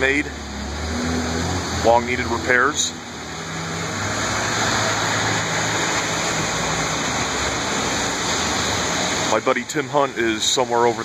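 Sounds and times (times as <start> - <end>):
tyres hissing on wet road: 0.0 - 11.0
vehicle engine low hum: 0.0 - 11.0.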